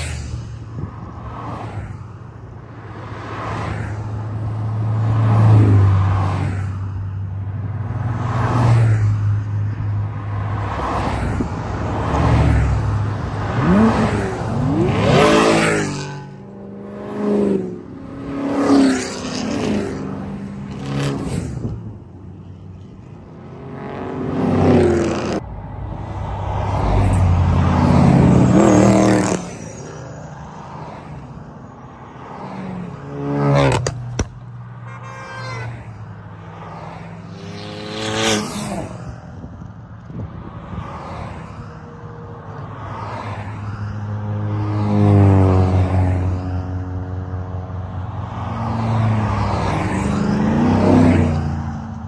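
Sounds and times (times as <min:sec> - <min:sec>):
cars driving past: 0:00.0 - 0:52.0.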